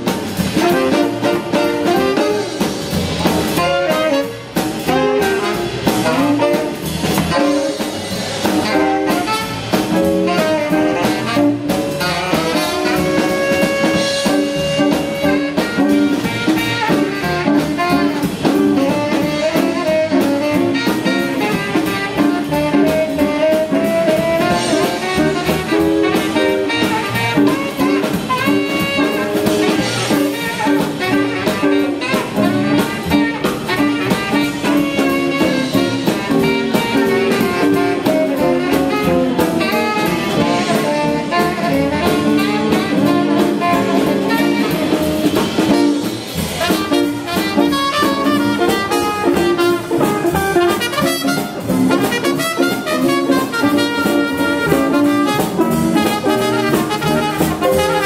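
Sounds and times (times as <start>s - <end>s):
drum kit: 0.0s - 58.0s
tenor saxophone lead line: 0.0s - 58.0s.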